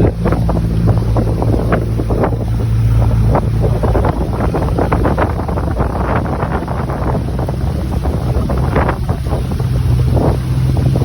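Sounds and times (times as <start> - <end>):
motor humming: 0.0 - 11.0
wind buffeting microphone: 0.0 - 11.0.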